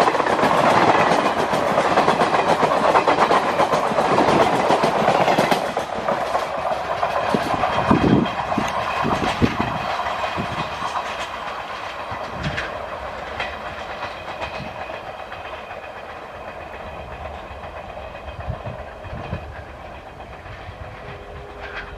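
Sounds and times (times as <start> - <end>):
train wheels clattering on track: 0.0 - 21.9.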